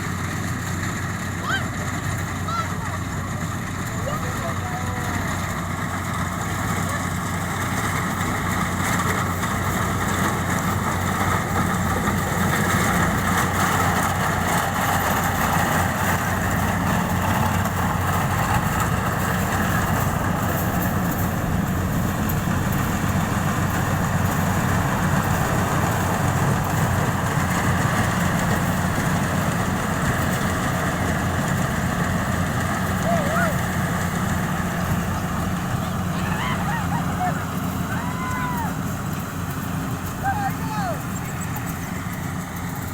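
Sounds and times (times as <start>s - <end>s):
harvester engine drone: 0.0s - 42.9s.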